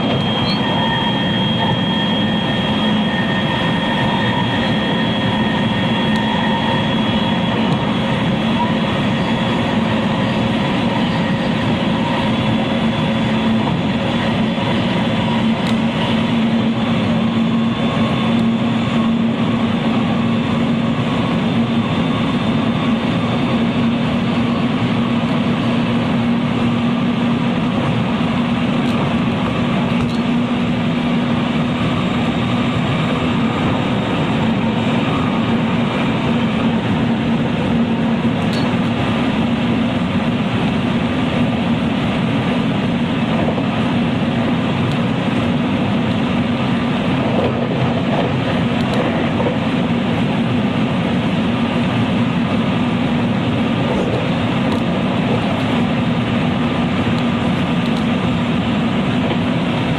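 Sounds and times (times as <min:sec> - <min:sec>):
train motor hum: 0:00.0 - 0:59.9
train rail and wheel noise: 0:00.0 - 0:59.9.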